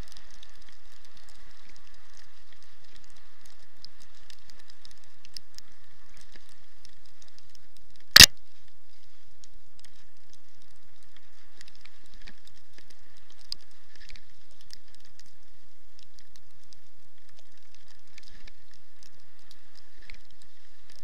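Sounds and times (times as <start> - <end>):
light crackles and ticks: 0.0 - 21.0.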